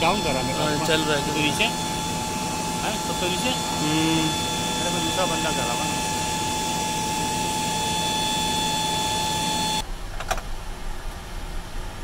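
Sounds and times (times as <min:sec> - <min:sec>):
aircraft systems mechanical whine: 0:00.0 - 0:09.8.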